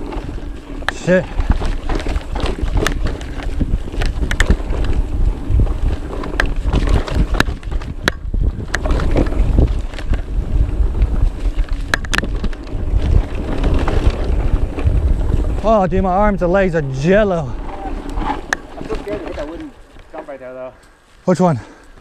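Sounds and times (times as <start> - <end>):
wind rumble on microphone: 0.0 - 19.7
bike rattling over bumps: 0.0 - 22.0.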